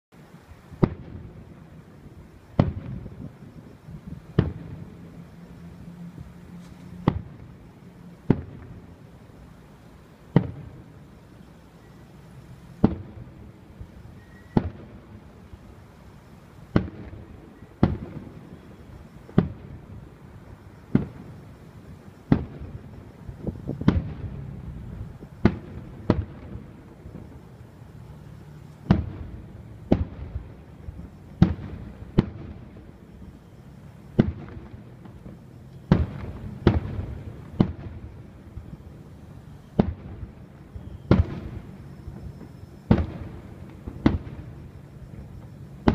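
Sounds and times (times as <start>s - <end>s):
fireworks booming: 0.4s - 9.6s, 10.2s - 11.1s, 12.6s - 45.9s.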